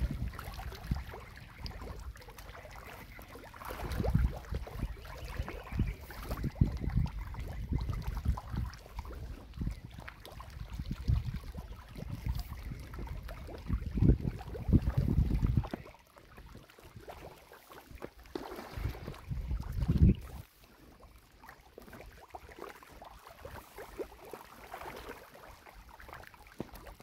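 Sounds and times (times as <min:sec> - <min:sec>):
water splashing and gurgling: 0:00.0 - 0:27.0.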